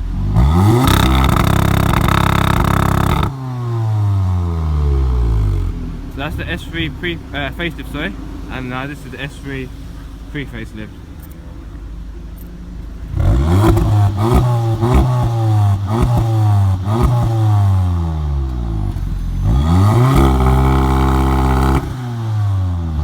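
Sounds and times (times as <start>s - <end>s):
exhaust pops and crackles: 0.0s - 3.5s, 5.6s - 22.2s
car engine revving: 0.0s - 23.0s.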